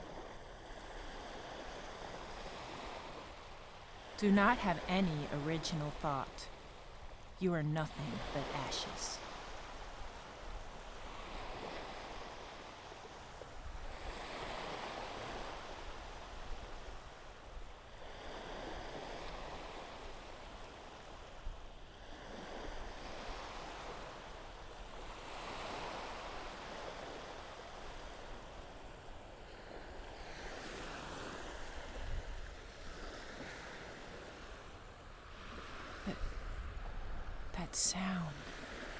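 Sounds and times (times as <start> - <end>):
ocean surf on sandy beach: 0.0 - 38.9.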